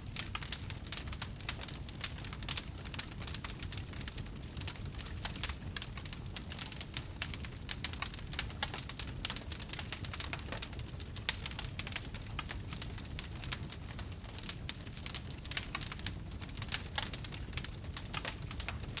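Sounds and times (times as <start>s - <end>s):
bonfire crackling and popping: 0.0s - 19.0s
low fire rumble: 0.0s - 19.0s.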